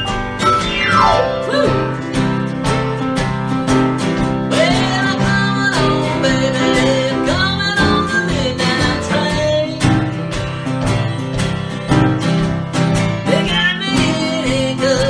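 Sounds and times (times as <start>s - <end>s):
acoustic guitar with sliding notes: 0.0s - 15.0s
boogie-woogie piano: 0.0s - 15.0s.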